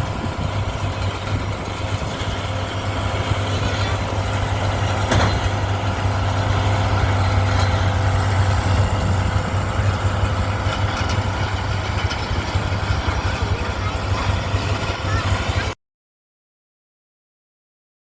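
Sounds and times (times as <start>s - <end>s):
round baler: 0.0s - 15.8s
tractor diesel engine running: 0.0s - 15.8s.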